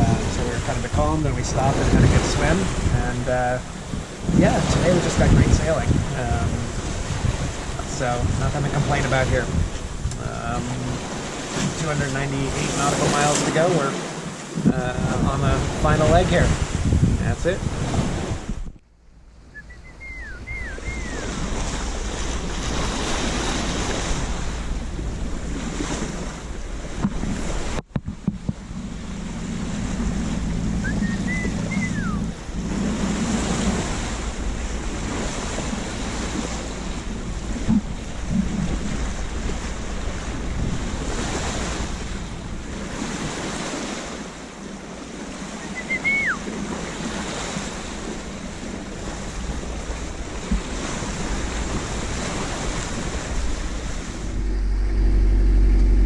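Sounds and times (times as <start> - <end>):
water rushing along boat hull: 0.0 - 56.0
wind buffeting microphone: 0.0 - 56.0.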